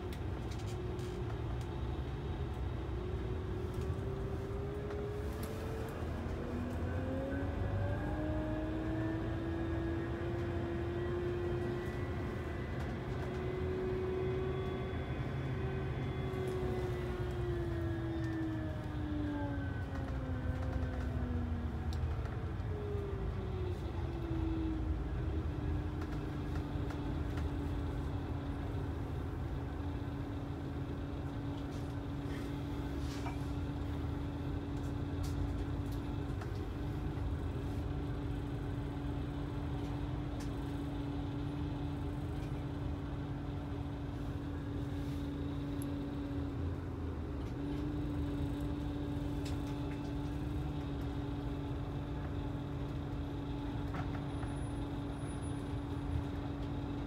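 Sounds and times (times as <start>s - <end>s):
bus engine low rumble: 0.0s - 57.0s
road noise drone: 0.0s - 57.0s.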